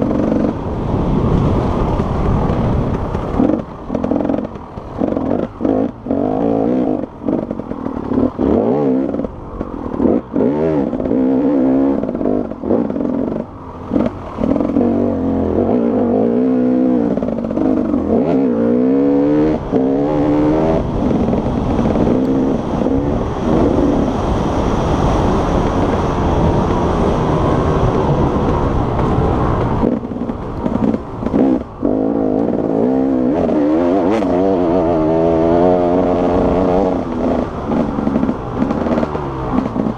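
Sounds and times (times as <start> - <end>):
dirt bike engine revving: 0.0 - 0.9, 1.9 - 39.9.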